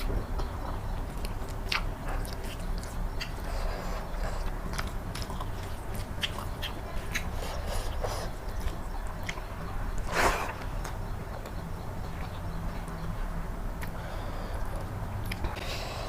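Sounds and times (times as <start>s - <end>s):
close chewing: 0.0s - 13.0s, 14.6s - 16.0s.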